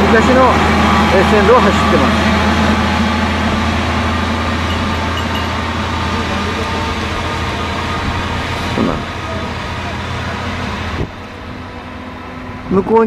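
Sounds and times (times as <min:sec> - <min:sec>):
diesel locomotive engine hum: 0:00.0 - 0:13.0.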